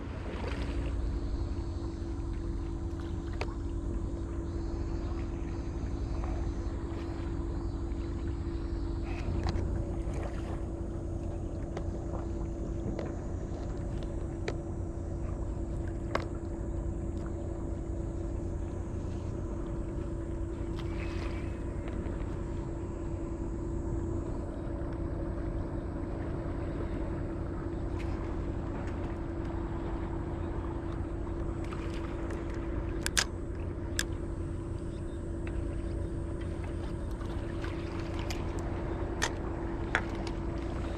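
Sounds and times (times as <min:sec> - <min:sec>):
low engine-like drone: 0:00.0 - 0:40.9.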